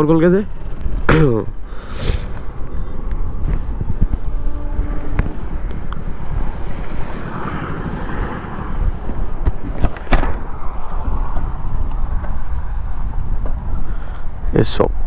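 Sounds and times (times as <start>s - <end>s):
road traffic: 0.0s - 15.0s
wind on microphone: 0.6s - 15.0s
vehicle passing: 1.6s - 14.5s.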